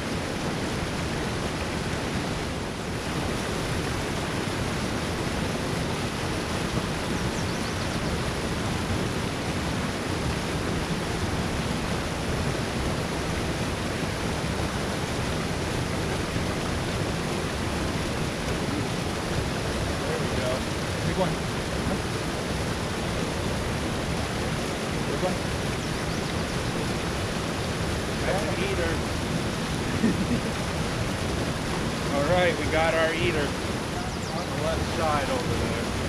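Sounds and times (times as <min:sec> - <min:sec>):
water rushing over spillway: 0:00.0 - 0:36.0.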